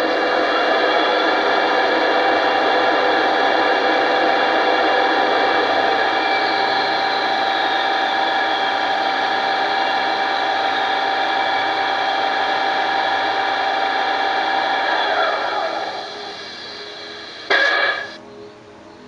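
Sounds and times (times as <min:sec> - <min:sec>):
electric locomotive whine: 0:00.0 - 0:19.0.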